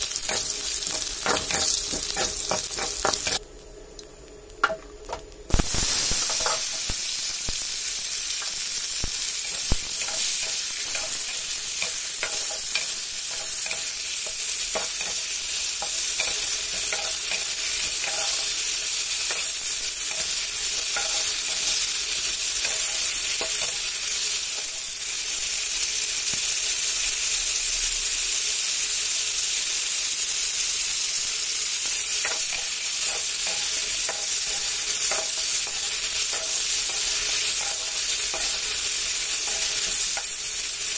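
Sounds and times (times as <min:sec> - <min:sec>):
tomatoes sizzling in hot oil: 0:00.0 - 0:40.9.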